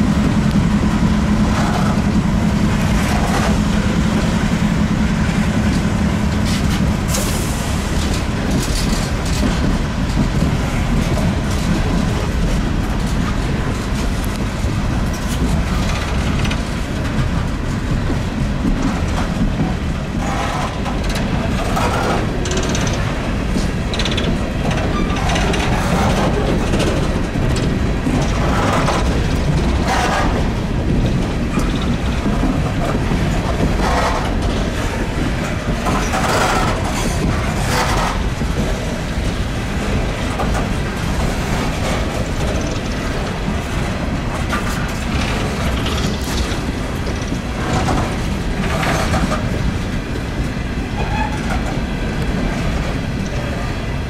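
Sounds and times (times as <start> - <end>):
train cars rumbling past: 0.0 - 54.0
wheels clacking over rail joints: 0.0 - 54.0.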